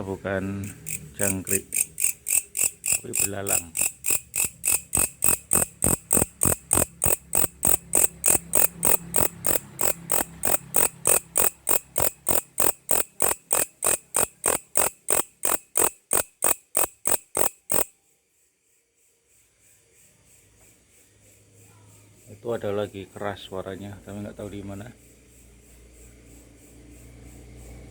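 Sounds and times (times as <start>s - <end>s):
grasshopper chirping: 0.0s - 27.9s.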